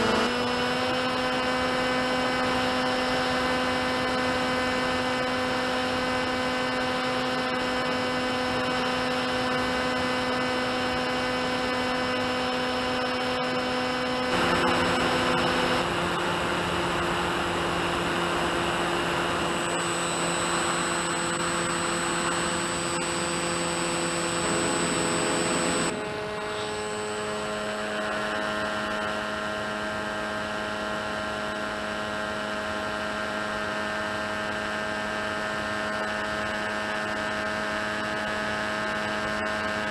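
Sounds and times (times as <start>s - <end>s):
electric motor and propeller whining: 0.0s - 39.9s.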